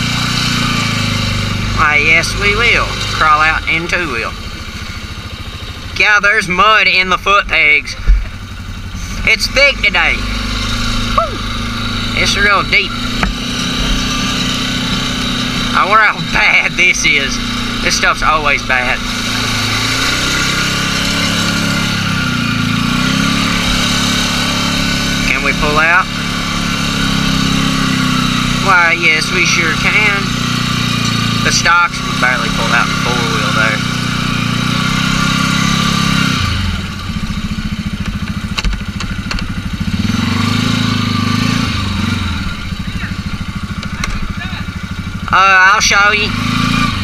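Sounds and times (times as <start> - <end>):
atv engine running under load: 0.0 - 47.0.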